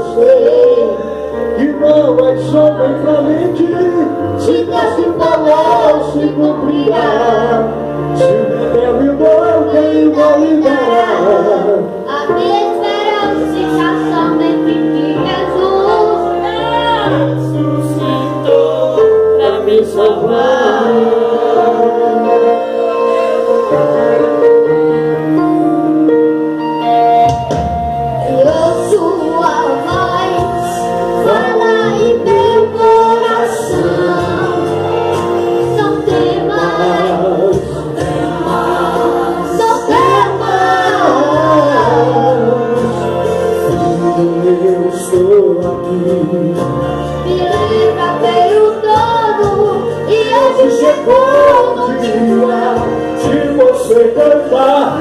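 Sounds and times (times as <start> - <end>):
voices singing gospel: 0.0 - 26.1, 28.2 - 55.0
bass line: 0.0 - 55.0
held instrumental chords: 0.0 - 55.0.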